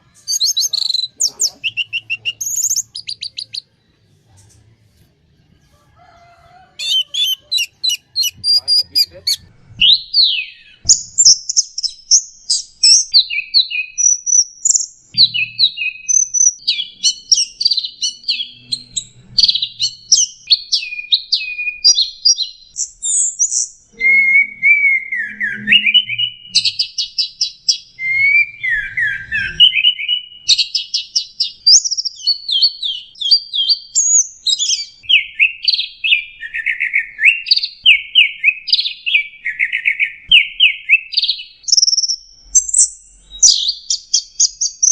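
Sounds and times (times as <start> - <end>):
thrush singing whistled phrases: 0.3 - 3.7, 6.8 - 18.8, 19.6 - 44.9.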